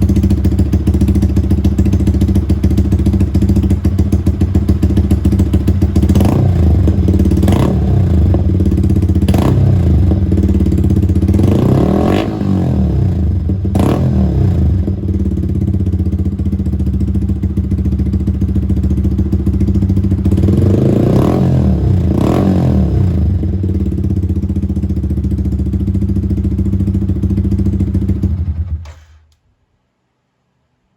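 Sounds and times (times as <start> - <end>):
motorcycle engine revving: 0.0 - 29.1.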